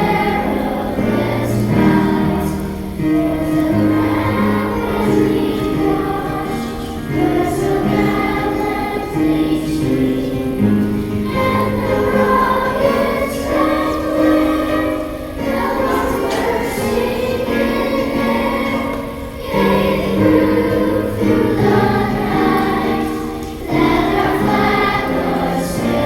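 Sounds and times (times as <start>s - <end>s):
choir singing held notes: 0.0s - 26.0s.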